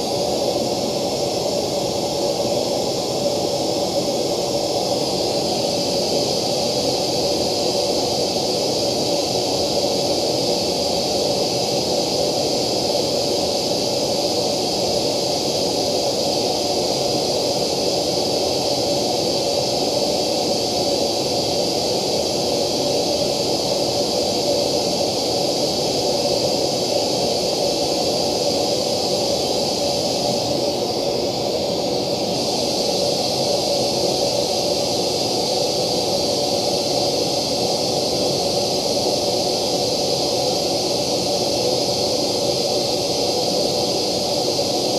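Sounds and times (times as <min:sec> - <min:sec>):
hiss-like test noise from loudspeaker: 0:00.0 - 0:44.9.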